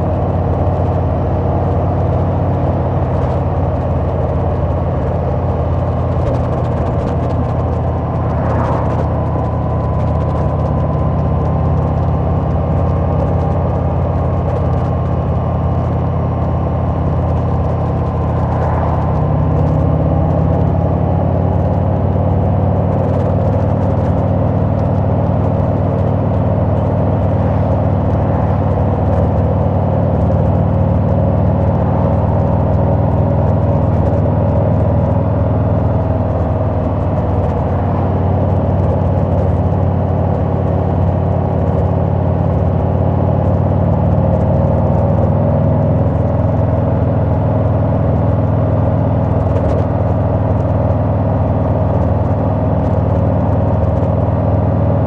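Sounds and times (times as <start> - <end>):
motorcycle engine cruising: 0.0 - 55.0
road and wind noise: 0.0 - 55.0.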